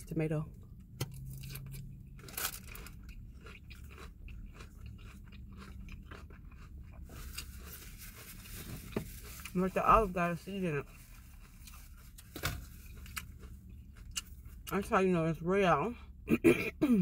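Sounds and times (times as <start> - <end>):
person chewing crunchy salad: 1.1 - 14.8.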